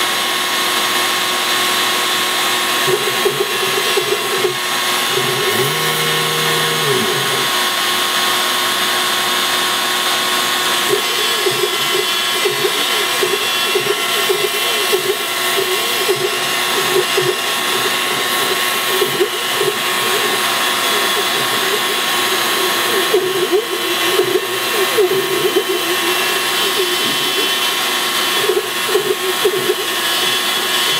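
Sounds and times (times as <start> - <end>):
router spindle motor whine: 0.0 - 30.9
drive motors whining tones: 2.7 - 8.2, 10.5 - 30.9.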